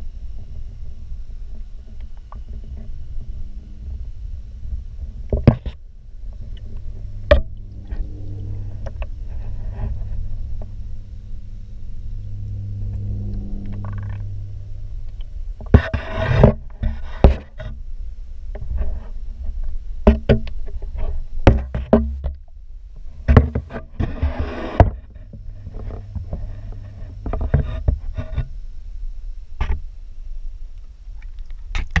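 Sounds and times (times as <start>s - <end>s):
low underwater hum: 0.0s - 32.0s.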